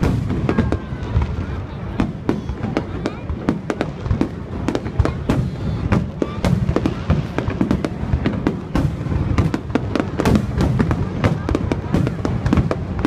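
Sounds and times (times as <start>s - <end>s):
fireworks bangs and booms: 0.0s - 13.0s.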